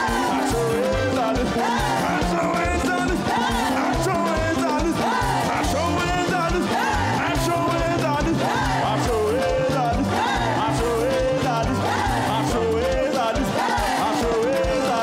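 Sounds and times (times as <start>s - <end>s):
gospel band playing: 0.0s - 15.0s
person singing: 0.0s - 15.0s.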